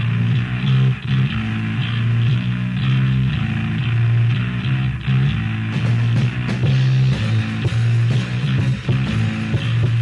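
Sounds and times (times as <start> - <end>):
punk rock bass and guitar riff: 0.0 - 10.0.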